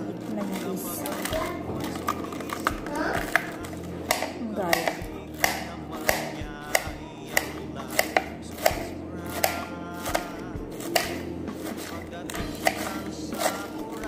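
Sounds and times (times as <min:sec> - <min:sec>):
knife chopping lettuce on a plate: 0:00.3 - 0:14.0.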